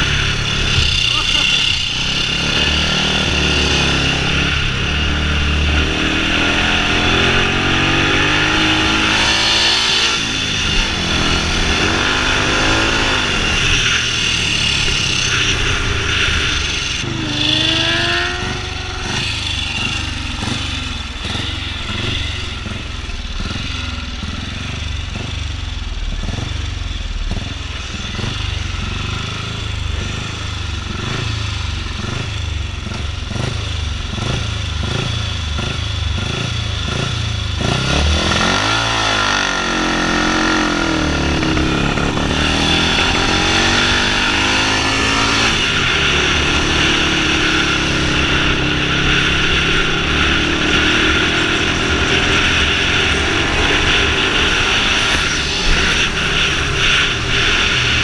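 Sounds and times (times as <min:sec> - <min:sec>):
racing engine accelerating: 0:00.0 - 0:23.8, 0:34.2 - 0:58.0.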